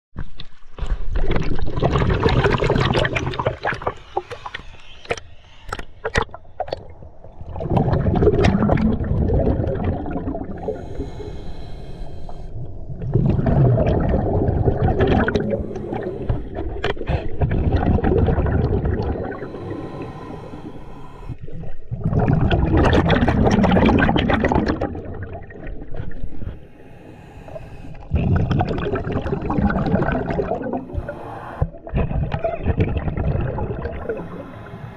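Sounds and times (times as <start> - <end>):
scuba regulator bubbling exhalations: 1.1 - 4.5, 7.5 - 34.9.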